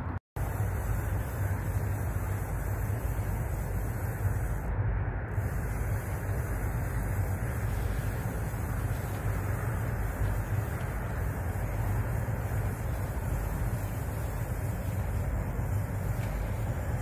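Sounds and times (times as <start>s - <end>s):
low rumble: 0.0s - 17.0s
wind noise: 0.0s - 17.0s.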